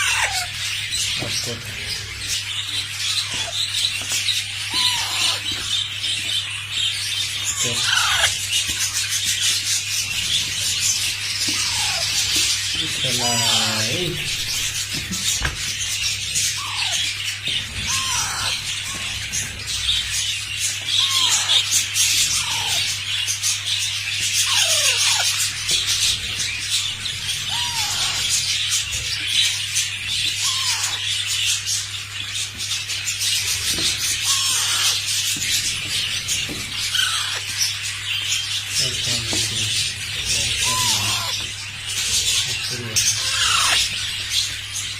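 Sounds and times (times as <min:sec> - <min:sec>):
short falling bird calls: 0:00.0 - 0:32.0, 0:32.8 - 0:35.8, 0:36.7 - 0:44.6
lovebirds chattering: 0:00.0 - 0:44.9.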